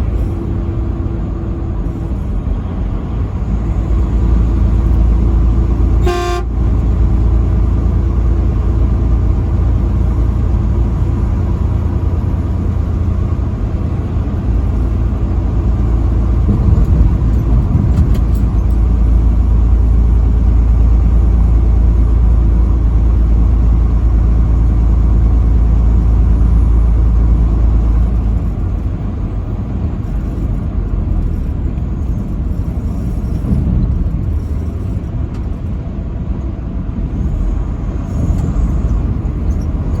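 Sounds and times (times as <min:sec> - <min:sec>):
vehicle driving at highway speed: 0:00.0 - 0:40.0.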